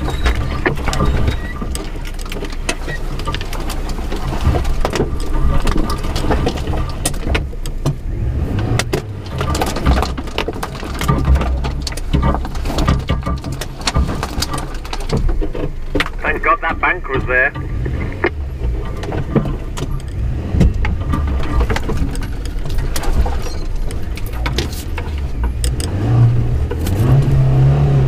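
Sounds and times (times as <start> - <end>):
engine low rumble: 0.0 - 28.0
knocks and rattles of car body: 0.0 - 28.0.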